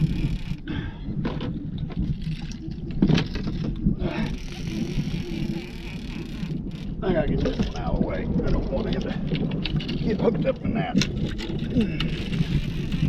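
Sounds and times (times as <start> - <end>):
steady low rumble: 0.0 - 13.0
fishing gear knocking and clattering: 1.2 - 13.0.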